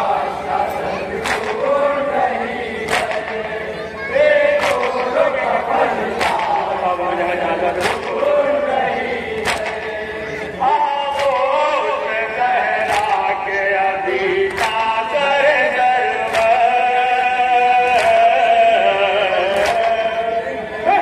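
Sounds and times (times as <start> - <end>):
men chanting a lament: 0.0 - 21.0
rhythmic chest-beating slaps: 0.0 - 21.0.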